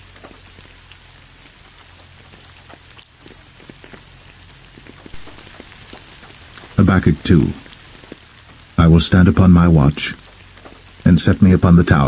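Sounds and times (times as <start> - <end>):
light rain hiss: 0.0 - 12.0
raindrops ticking: 0.0 - 12.0.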